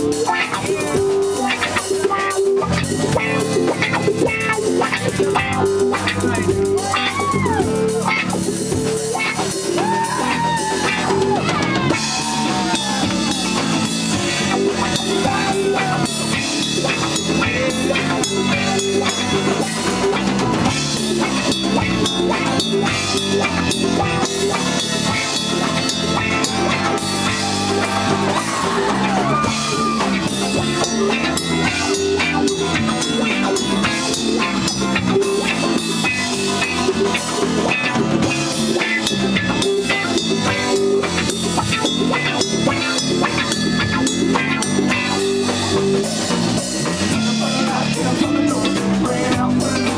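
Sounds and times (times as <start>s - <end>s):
bass guitar: 0.0s - 49.9s
drum kit beat: 0.0s - 49.9s
guitar with bending notes: 0.0s - 49.9s.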